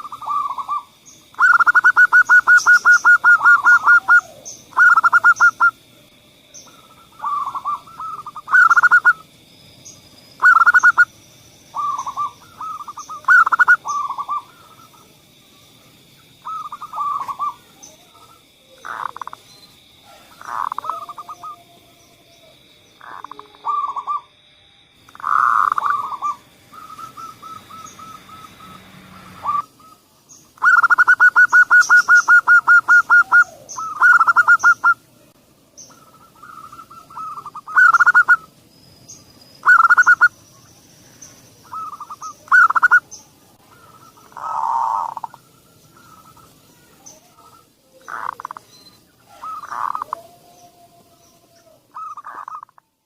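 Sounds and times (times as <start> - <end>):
dove trilled cooing: 0.0 - 5.8, 6.6 - 9.3, 10.4 - 11.1, 11.7 - 15.2, 16.3 - 19.4, 20.0 - 24.3, 25.2 - 35.0, 35.8 - 38.5, 39.6 - 40.4, 41.6 - 52.8.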